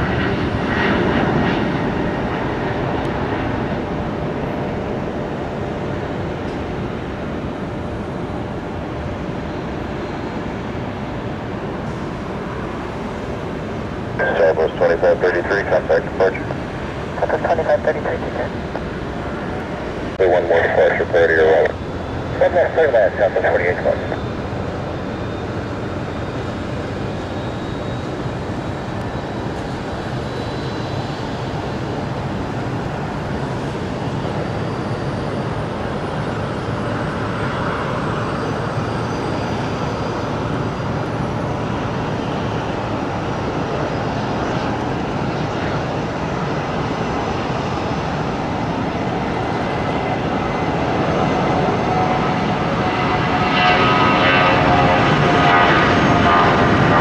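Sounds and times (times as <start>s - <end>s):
jet engines rumbling with whine: 0.0s - 57.0s.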